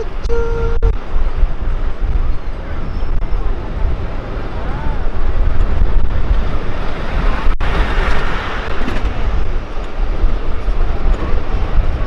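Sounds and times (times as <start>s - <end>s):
train wheels rumbling on rails: 0.0s - 12.0s
wind buffeting microphone: 0.0s - 12.0s.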